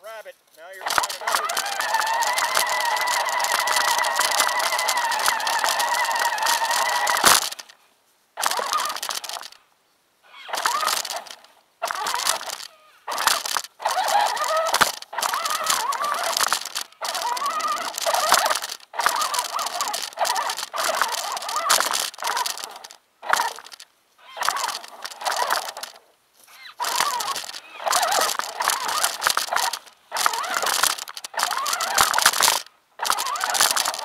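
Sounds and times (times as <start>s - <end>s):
undergrowth rustling and scraping: 0.5s - 9.6s, 10.5s - 34.0s
toy truck motor whining: 0.8s - 7.7s, 8.4s - 9.6s, 10.3s - 34.0s.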